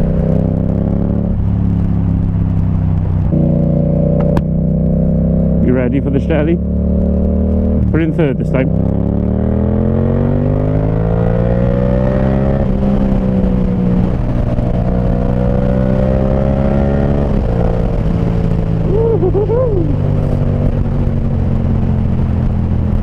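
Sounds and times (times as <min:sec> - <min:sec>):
motorcycle engine accelerating hard: 0:00.0 - 0:23.0.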